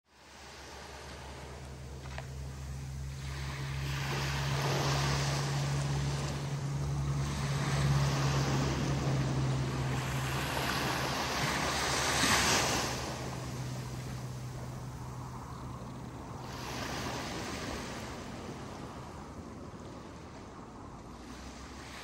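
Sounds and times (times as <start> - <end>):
small waves breaking on sand: 0.1 - 22.0
steady low hum: 0.2 - 22.0.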